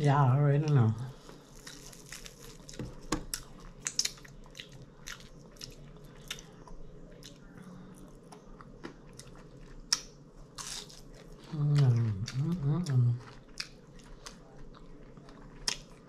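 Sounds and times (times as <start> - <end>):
person chewing and crunching food: 1.1 - 16.0.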